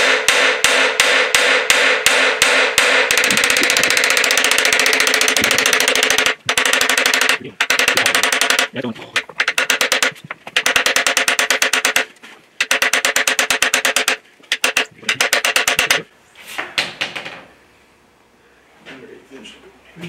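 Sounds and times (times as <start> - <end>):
rapid metal hammering: 0.0 - 16.1.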